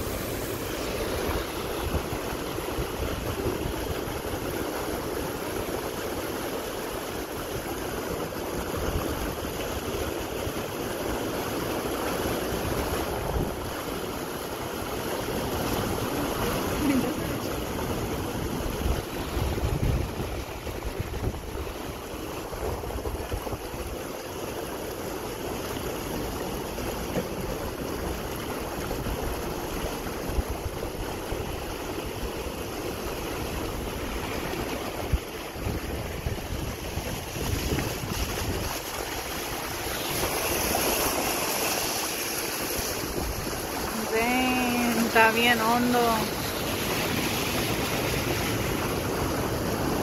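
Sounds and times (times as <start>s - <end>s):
car tyres splashing through water: 0.0s - 44.8s, 46.2s - 50.0s.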